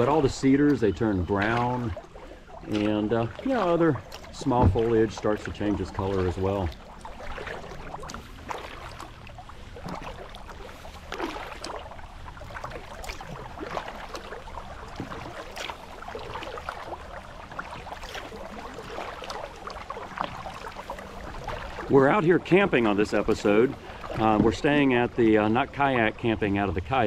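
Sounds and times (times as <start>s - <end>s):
paddle strokes in water: 0.0s - 27.0s
water drips and small splashes: 0.0s - 27.0s.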